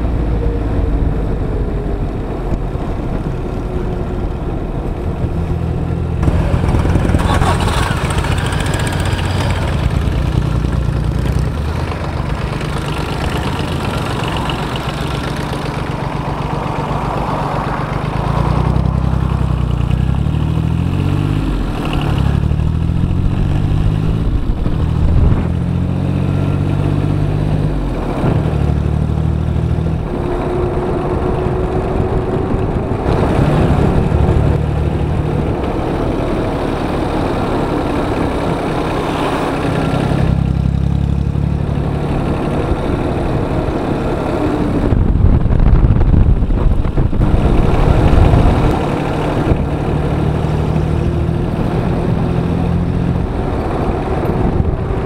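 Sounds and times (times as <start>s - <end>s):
diesel motorcycle engine: 0.0s - 55.0s.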